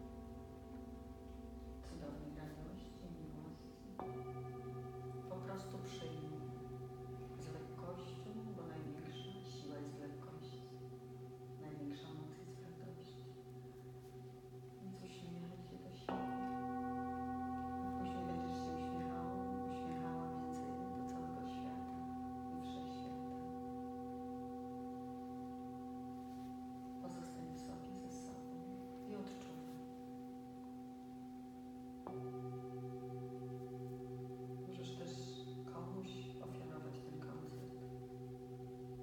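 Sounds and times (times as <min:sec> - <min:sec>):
singing bowl struck and ringing: 0:00.0 - 0:39.0.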